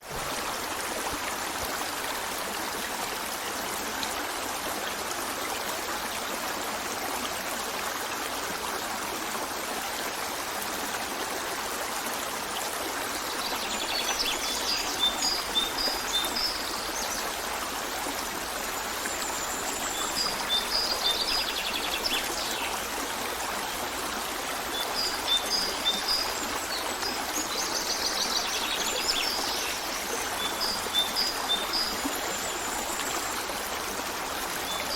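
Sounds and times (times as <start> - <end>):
stream running: 0.0 - 34.9.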